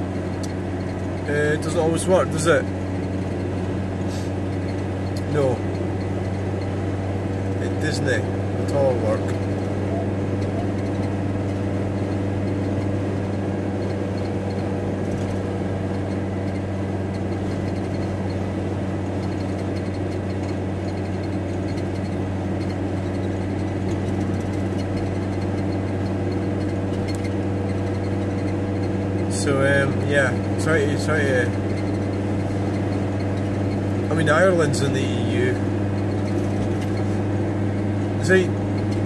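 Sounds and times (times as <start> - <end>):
road noise: 0.0 - 39.0
van engine drone: 0.0 - 39.0.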